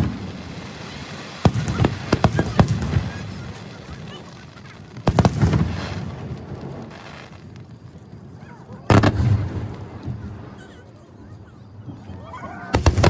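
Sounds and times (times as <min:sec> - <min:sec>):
fireworks bursting with rumble: 0:00.0 - 0:13.0.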